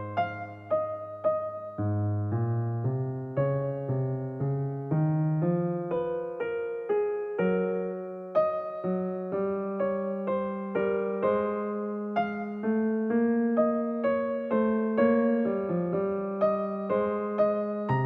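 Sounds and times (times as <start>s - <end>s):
electric piano chords: 0.0s - 18.0s.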